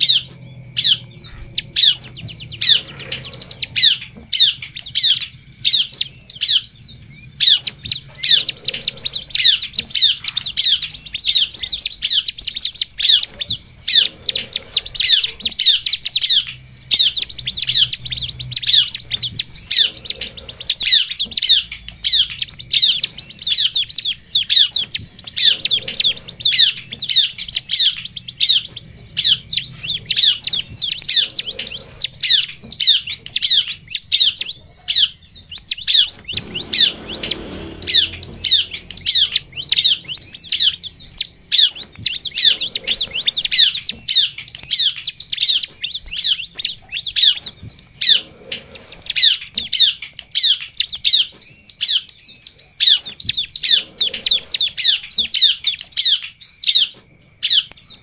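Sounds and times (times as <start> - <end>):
bird singing high chirps: 0.0 - 58.0.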